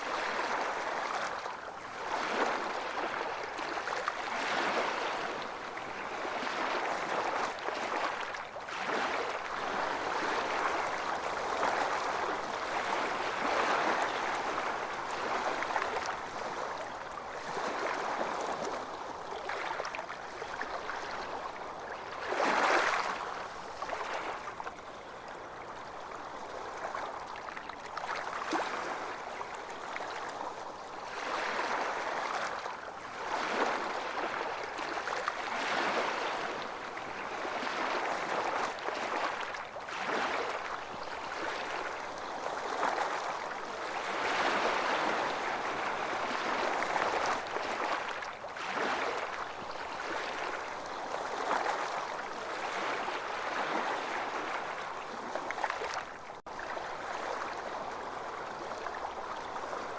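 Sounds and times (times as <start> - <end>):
small waves washing on beach: 0.0 - 59.9.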